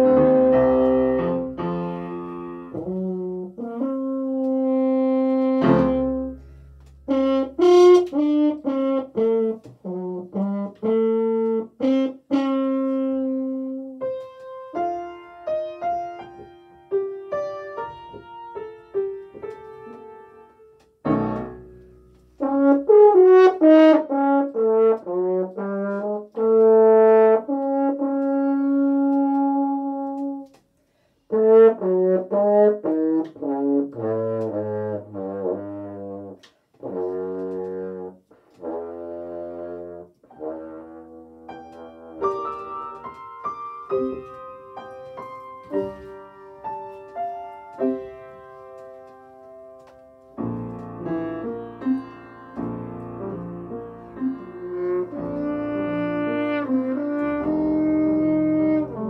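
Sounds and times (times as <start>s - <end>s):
french horn melody: 0.0s - 30.6s, 31.3s - 59.0s
piano accompaniment: 0.0s - 30.7s, 31.3s - 59.0s.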